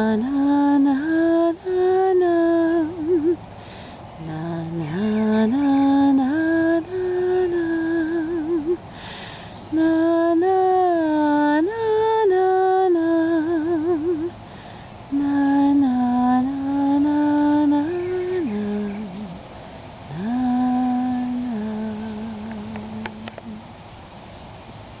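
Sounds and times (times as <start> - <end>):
woman humming a lullaby: 0.0 - 3.4, 4.2 - 8.9, 9.7 - 14.4, 15.1 - 19.4, 20.1 - 23.7.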